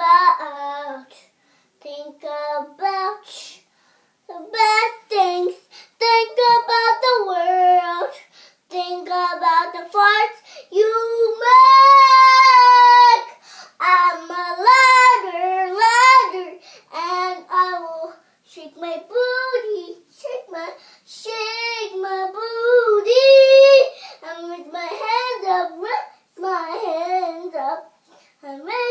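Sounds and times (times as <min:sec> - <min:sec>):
girl singing unaccompanied: 0:00.0 - 0:28.9.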